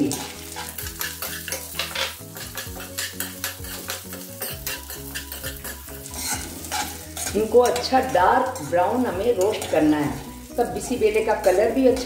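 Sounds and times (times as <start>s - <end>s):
light sizzle of oil: 0.0s - 12.0s
metal spoon scraping a pan: 0.0s - 12.0s.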